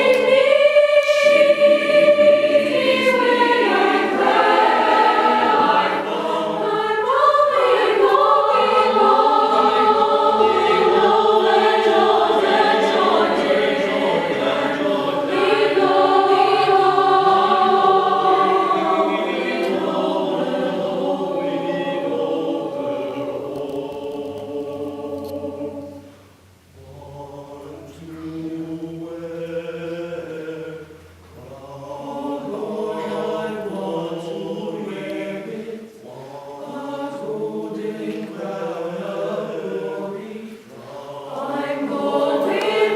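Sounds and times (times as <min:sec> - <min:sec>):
choir singing held chords: 0:00.0 - 0:42.9.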